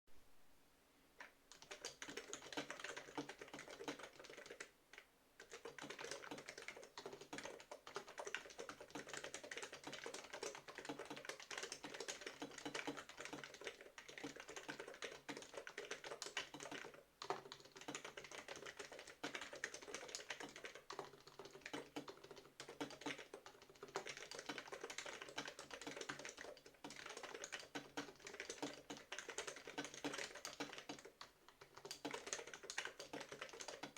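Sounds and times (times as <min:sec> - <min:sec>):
typing on a keyboard: 0:01.2 - 0:33.9.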